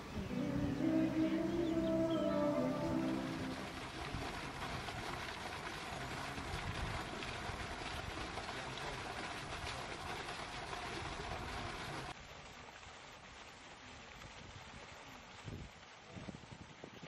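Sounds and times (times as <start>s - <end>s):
fountain splashing into water: 0.0s - 17.0s.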